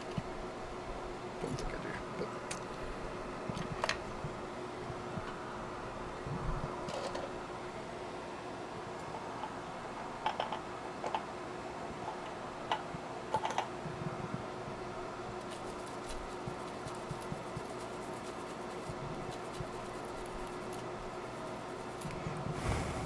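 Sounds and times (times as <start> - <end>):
steady fan hum: 0.0 - 23.0.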